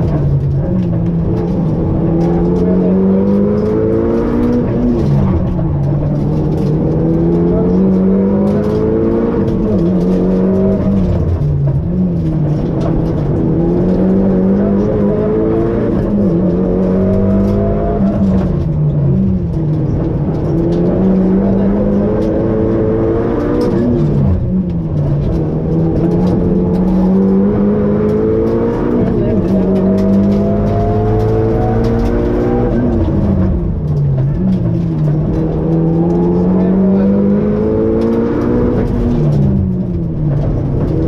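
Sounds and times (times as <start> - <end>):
car engine accelerating: 0.0 - 41.0
car road noise: 0.0 - 41.0.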